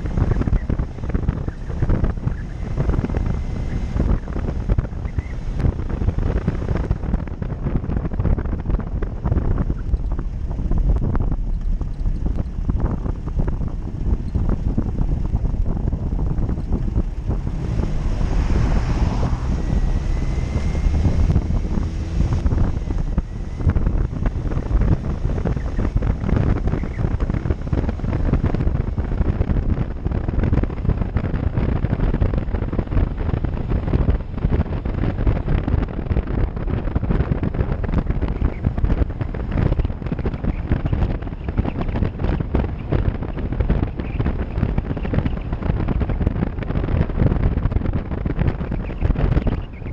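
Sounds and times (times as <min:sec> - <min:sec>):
off-road vehicle engine running: 0:00.0 - 0:49.9
wind buffeting microphone: 0:00.0 - 0:49.9.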